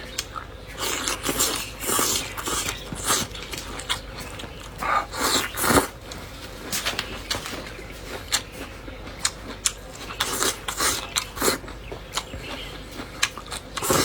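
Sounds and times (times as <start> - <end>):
person chewing crunchy food: 0.0 - 14.0.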